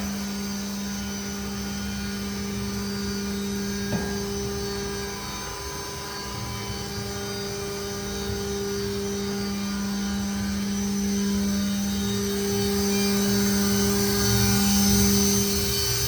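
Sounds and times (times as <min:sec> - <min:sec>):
machining center electric whine: 0:00.0 - 0:16.0.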